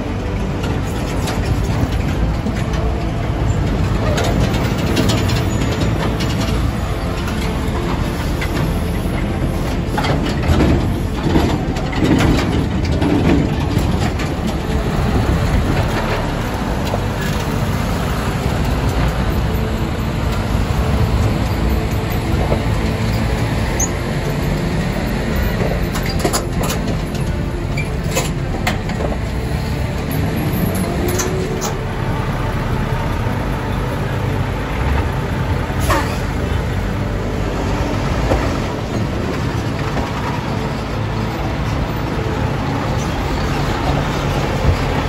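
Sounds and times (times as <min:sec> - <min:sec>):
diesel trucks running: 0:00.0 - 0:45.0
trailer clanks and rattles: 0:00.0 - 0:45.0.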